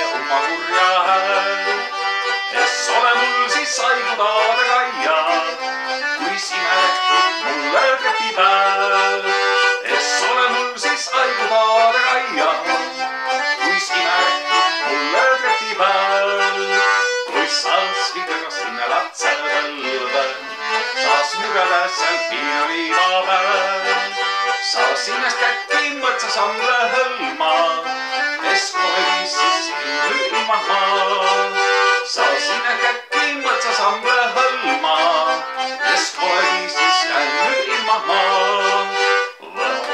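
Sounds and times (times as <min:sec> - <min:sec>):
button concertina folk tune: 0:00.0 - 0:39.9.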